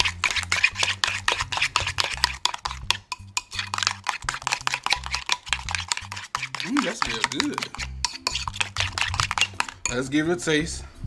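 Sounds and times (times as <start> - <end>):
utensil scraping container: 0.0 - 10.2
utensil stirring thick sauce: 0.0 - 10.2.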